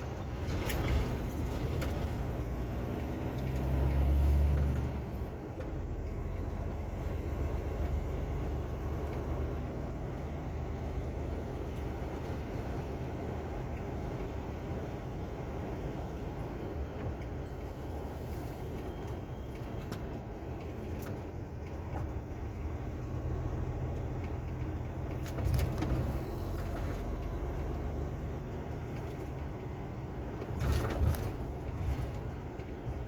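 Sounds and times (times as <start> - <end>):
truck engine and road rumble: 0.0 - 33.0.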